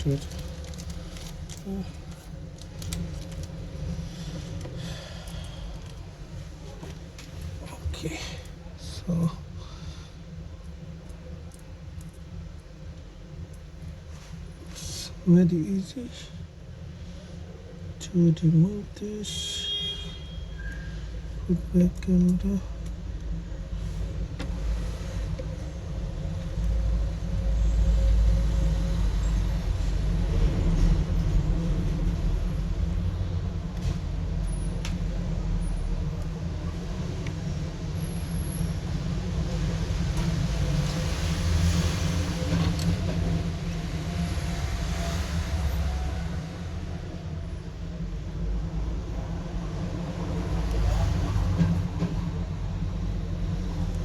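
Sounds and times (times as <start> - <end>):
low rumble with hiss: 0.0 - 54.0.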